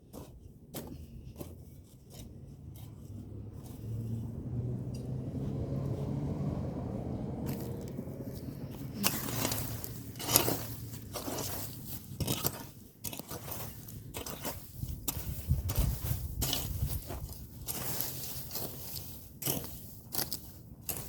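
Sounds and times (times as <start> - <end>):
hand tool scraping soil: 0.0 - 6.2, 7.4 - 21.0
low steady rumble: 1.0 - 20.0.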